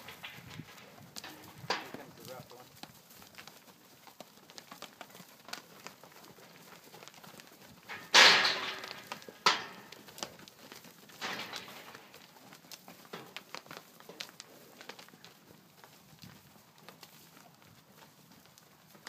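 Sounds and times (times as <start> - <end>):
hooves shuffling and knocking: 0.0 - 19.0.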